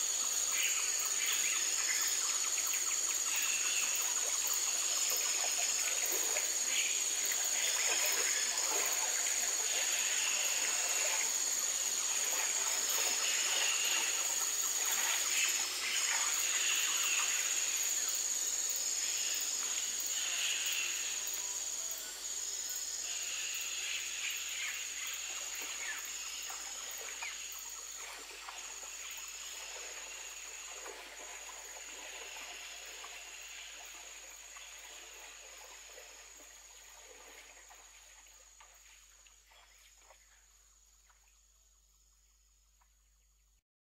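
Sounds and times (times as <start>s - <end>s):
high insect drone: 0.0s - 42.6s.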